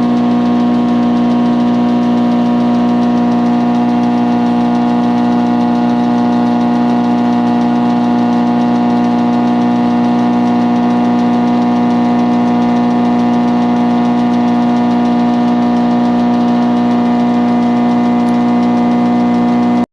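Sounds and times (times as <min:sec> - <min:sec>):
planer humming: 0:00.0 - 0:19.9.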